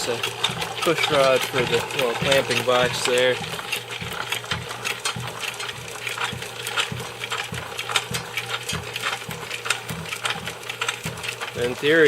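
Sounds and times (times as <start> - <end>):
electric motor hum: 0.0 - 12.0
saw frame clacking: 0.0 - 12.0.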